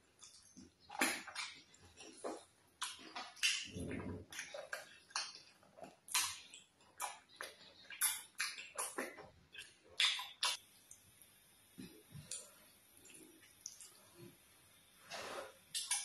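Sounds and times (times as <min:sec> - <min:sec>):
lip smacks while eating: 0:00.2 - 0:11.0, 0:11.8 - 0:14.0, 0:15.7 - 0:16.0.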